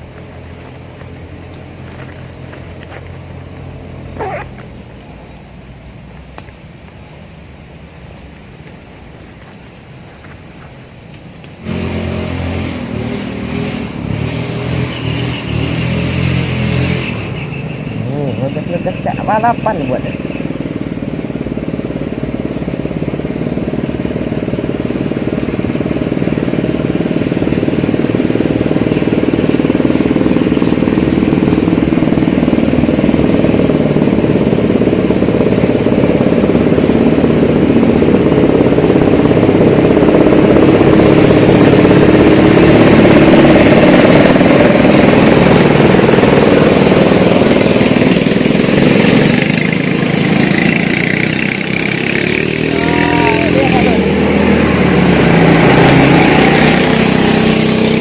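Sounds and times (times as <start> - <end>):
small petrol engines racing: 0.0 - 6.5, 11.5 - 58.0.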